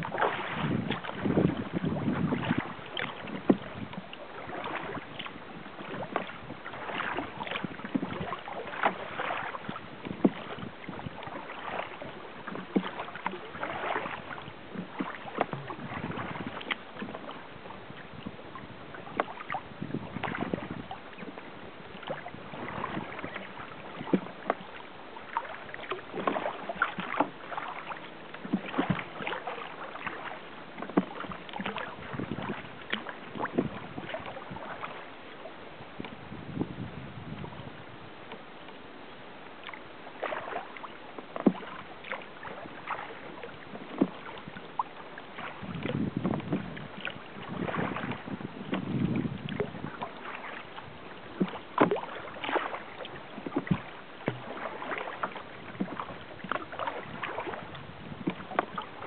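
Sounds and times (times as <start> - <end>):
irregular splashes: 0.0 - 36.1, 39.5 - 59.0
water lapping against kayak hull: 0.0 - 59.0.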